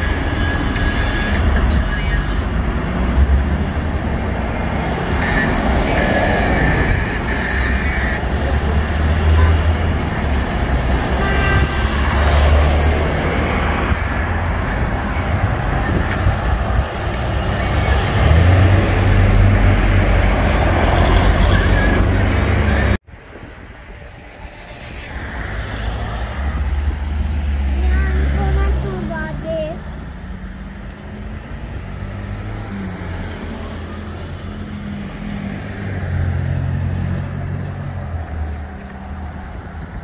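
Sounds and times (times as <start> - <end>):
cars passing with tyre noise: 0.0 - 40.0.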